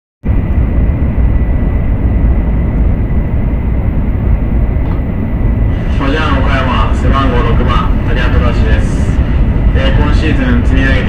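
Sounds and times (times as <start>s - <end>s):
train rumble inside carriage: 0.2s - 11.0s.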